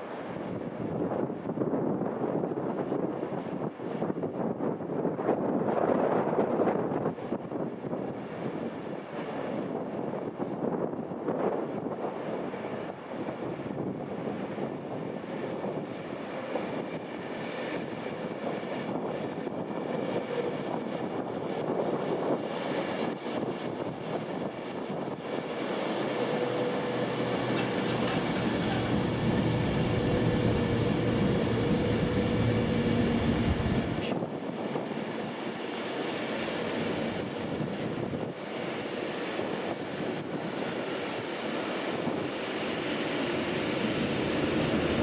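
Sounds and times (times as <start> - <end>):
train rumbling on rails: 0.0 - 45.0.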